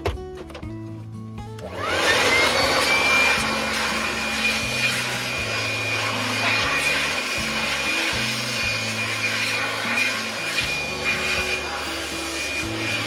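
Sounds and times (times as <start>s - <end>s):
electric blower motor whine: 1.5s - 13.0s.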